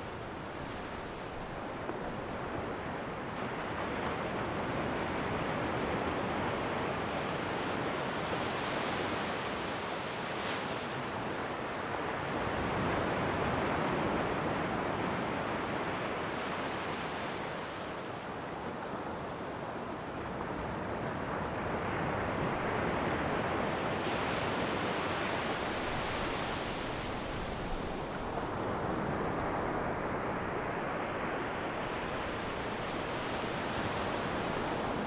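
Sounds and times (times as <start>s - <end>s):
ocean waves: 0.0s - 17.8s, 21.6s - 35.0s.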